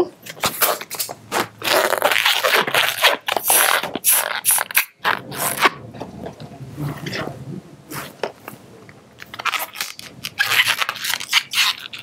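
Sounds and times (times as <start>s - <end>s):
balloon squeaking and rubbing: 0.3s - 8.4s, 9.2s - 12.0s.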